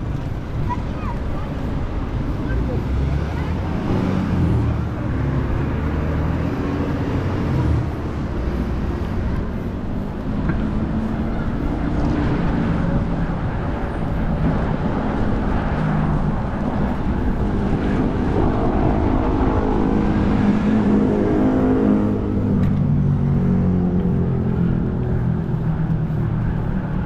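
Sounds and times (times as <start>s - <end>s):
tyre and road noise: 0.0s - 27.0s
vehicle engines running: 0.0s - 27.0s
vehicle passing: 0.0s - 27.0s.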